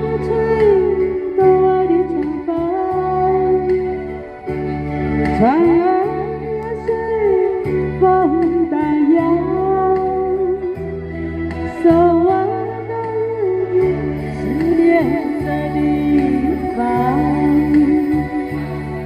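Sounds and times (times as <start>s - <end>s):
karaoke backing track: 0.0s - 19.0s
woman singing into microphone: 0.0s - 19.0s.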